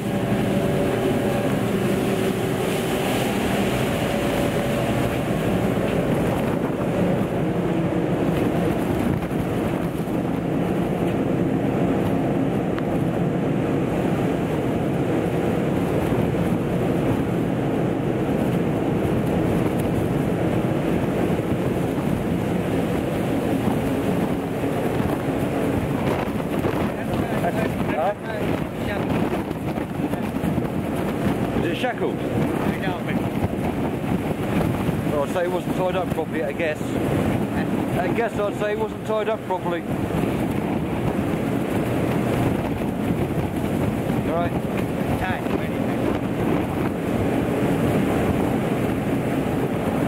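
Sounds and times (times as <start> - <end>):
heavy seas rushing: 0.0 - 50.0
storm wind buffeting microphone: 0.0 - 50.0.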